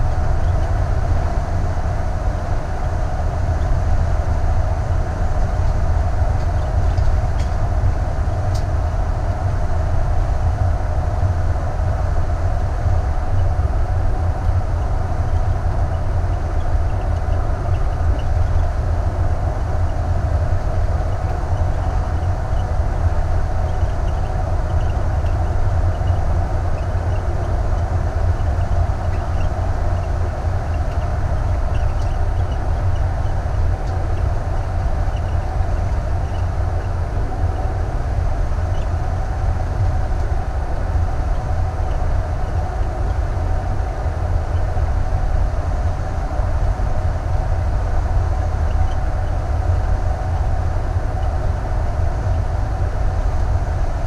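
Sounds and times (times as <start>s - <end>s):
vehicle cruising low rumble: 0.0s - 54.0s.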